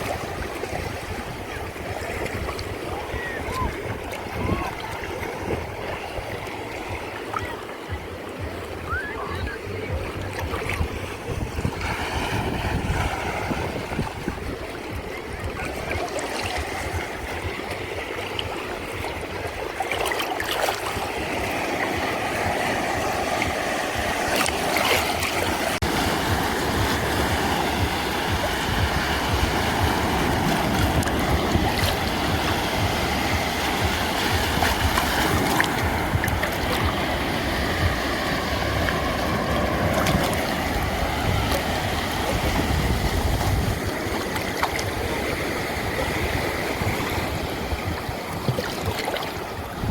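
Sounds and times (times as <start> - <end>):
wind buffeting the microphone: 0.0 - 19.7, 20.8 - 49.9
sea waves washing on shore: 0.0 - 49.9.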